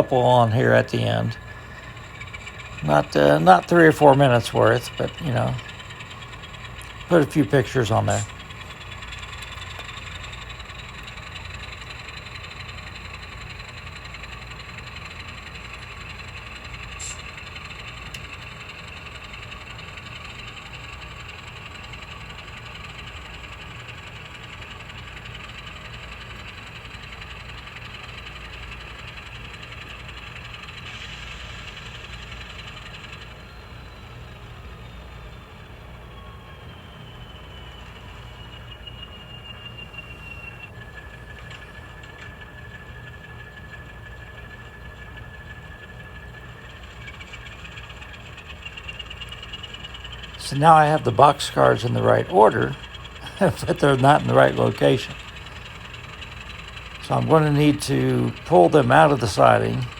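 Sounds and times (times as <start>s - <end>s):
model train motor hum: 0.0s - 59.9s.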